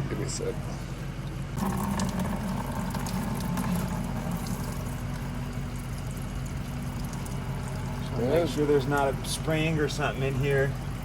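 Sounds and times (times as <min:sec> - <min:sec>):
motor humming: 0:00.8 - 0:11.0.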